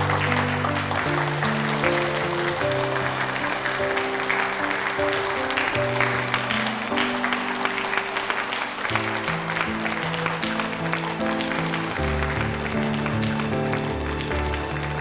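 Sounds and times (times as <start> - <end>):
audience applauding: 0.0 - 15.0
slow score of sustained chords: 0.0 - 15.0.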